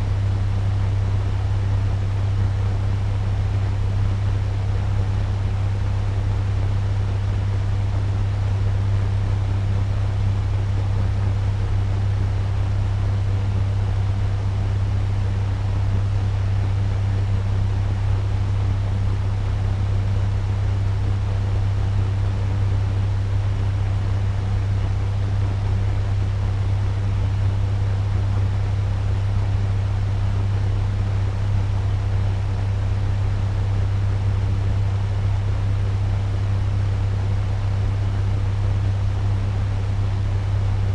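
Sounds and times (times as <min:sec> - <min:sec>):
fan rushing air with low hum: 0:00.0 - 0:40.9.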